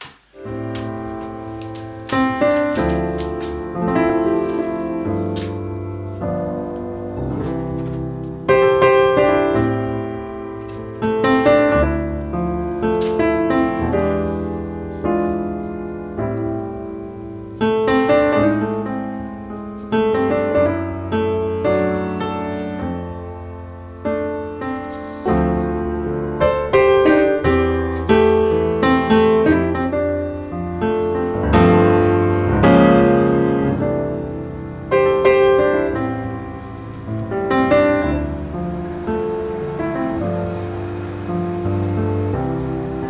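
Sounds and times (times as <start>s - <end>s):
slow gentle piano music: 0.0s - 43.0s.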